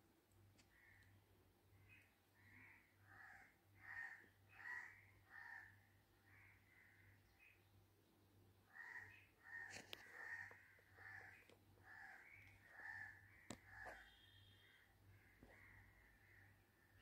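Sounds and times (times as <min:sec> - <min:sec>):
faint bird calls: 0:00.6 - 0:01.2, 0:01.8 - 0:07.7, 0:08.6 - 0:17.0.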